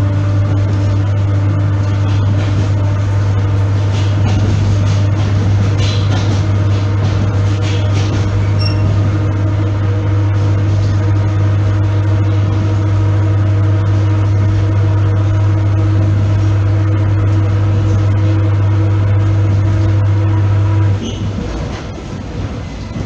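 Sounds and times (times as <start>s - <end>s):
low electrical hum: 0.0s - 21.0s
train running gear rumble: 0.0s - 23.0s.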